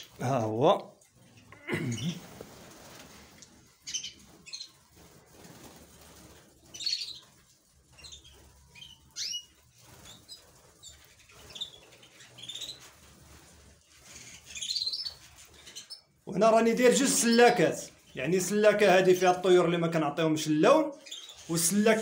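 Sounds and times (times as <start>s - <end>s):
canaries chirping: 0.0s - 22.0s
wings fluttering and flapping: 0.0s - 22.0s.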